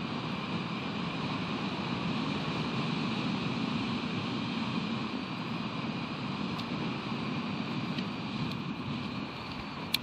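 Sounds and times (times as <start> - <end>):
ocean surf: 0.0 - 10.0
rushing wind: 0.0 - 10.0.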